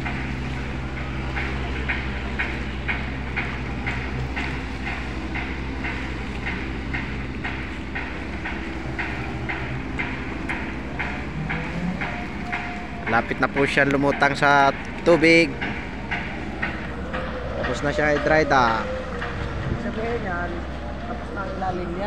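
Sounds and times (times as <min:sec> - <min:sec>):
machinery low drone: 0:00.0 - 0:22.0
regular clacking: 0:00.0 - 0:22.0.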